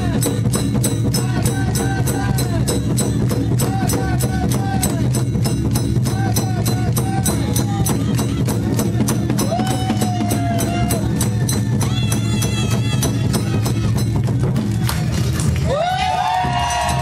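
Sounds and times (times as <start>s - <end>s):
drums and metal percussion: 0.0s - 17.0s.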